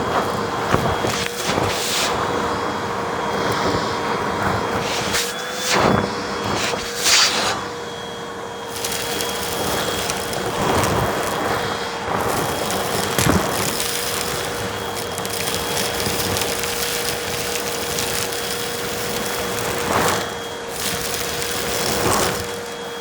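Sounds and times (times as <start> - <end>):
vacuum cleaner running: 0.0 - 23.0
vacuum sucking up crunchy debris: 0.0 - 23.0.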